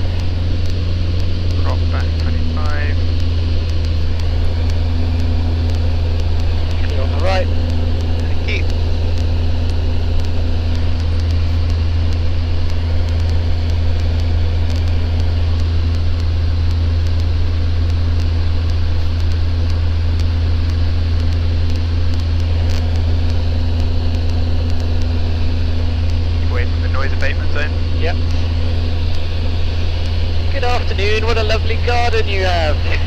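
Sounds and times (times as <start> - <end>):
airplane engine droning in cabin: 0.0 - 33.0.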